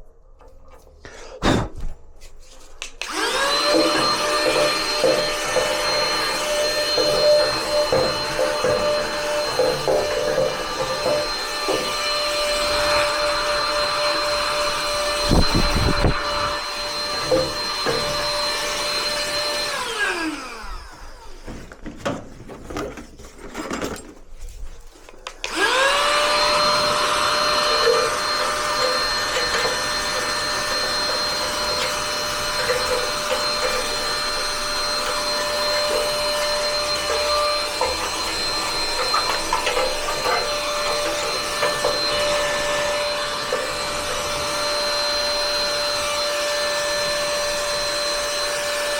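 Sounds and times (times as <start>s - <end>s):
vacuum cleaner motor whine: 3.0s - 21.9s, 25.2s - 48.9s.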